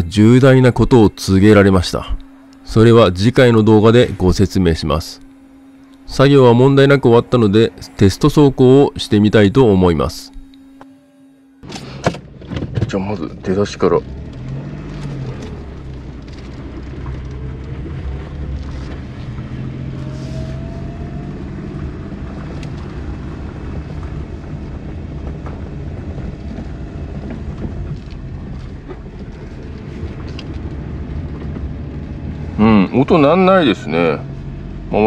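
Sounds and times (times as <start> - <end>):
faint rising tone: 0.0 - 11.9, 13.7 - 35.0
low engine and drivetrain hum: 0.0 - 35.0.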